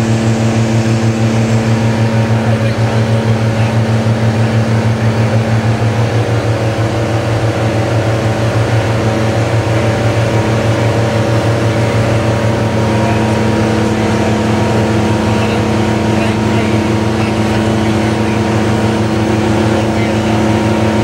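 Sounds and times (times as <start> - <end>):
diesel tractor engine droning: 0.0 - 21.0.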